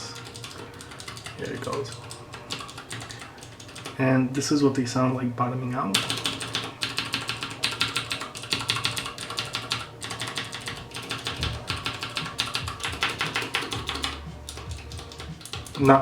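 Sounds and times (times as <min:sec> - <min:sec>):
mechanical keyboard clicking: 0:00.0 - 0:04.0, 0:05.9 - 0:16.0.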